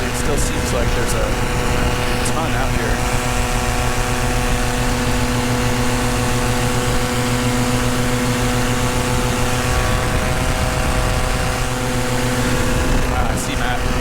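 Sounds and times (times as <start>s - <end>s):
paramotor engine and propeller: 0.0s - 14.0s.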